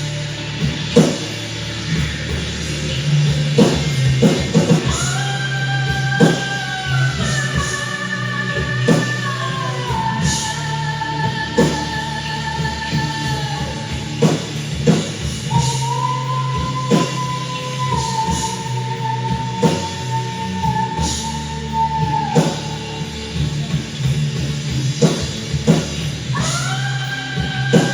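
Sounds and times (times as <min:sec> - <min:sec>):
bass: 0:00.0 - 0:27.9
drums: 0:00.0 - 0:27.9.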